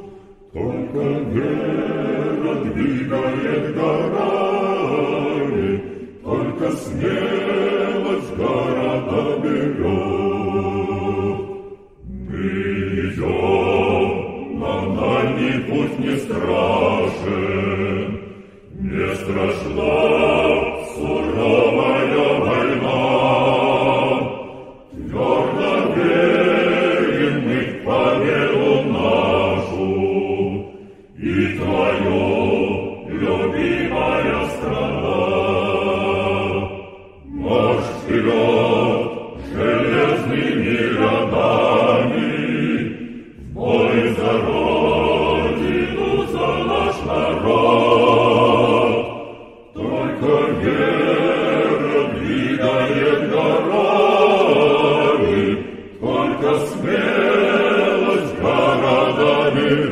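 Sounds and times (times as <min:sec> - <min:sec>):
choir singing a military march: 0:00.0 - 0:59.9.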